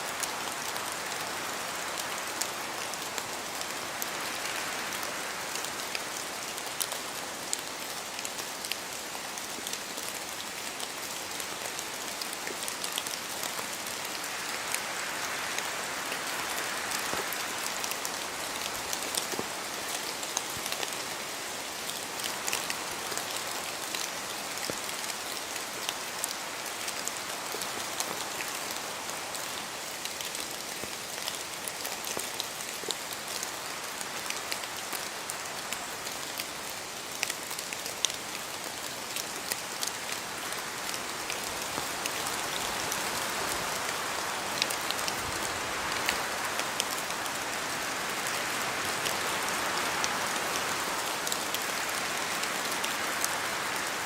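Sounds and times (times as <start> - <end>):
rain falling through trees: 0.0 - 54.0
wind blowing through trees: 0.0 - 54.0.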